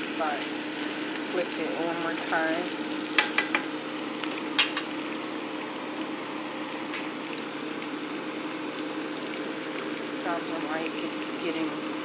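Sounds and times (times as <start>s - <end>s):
deep-frying bubbling sizzle: 0.0s - 12.0s.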